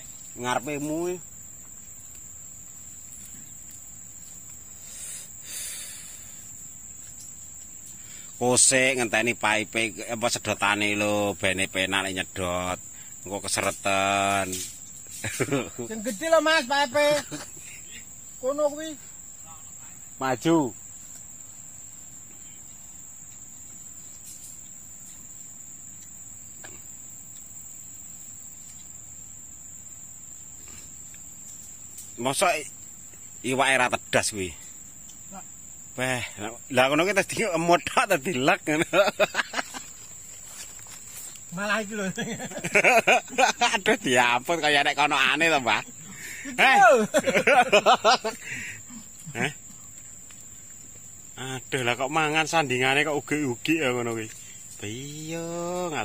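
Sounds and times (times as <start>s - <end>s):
insects droning: 0.0s - 56.0s
soft hiss: 0.0s - 56.0s.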